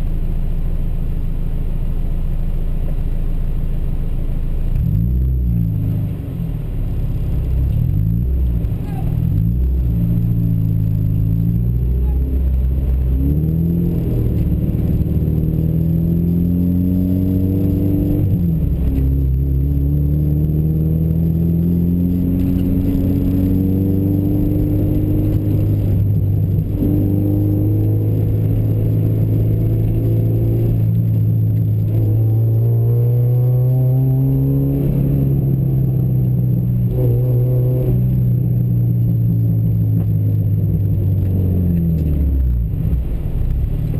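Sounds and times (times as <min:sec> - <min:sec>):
vehicle engine revving: 0:04.7 - 0:43.9.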